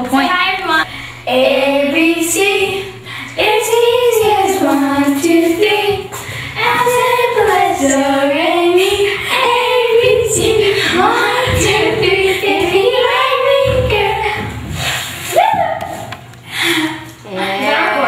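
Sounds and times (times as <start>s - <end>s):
girl singing: 0.1s - 14.6s.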